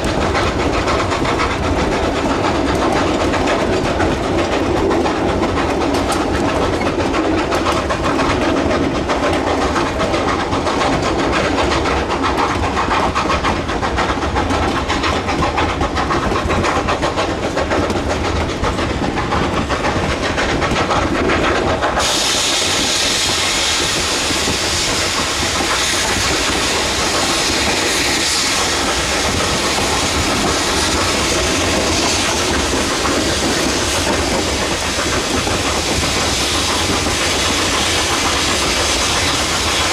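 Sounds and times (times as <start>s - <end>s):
loud steady steam hiss: 0.0s - 39.9s
train cars rumbling on rails: 0.0s - 39.9s.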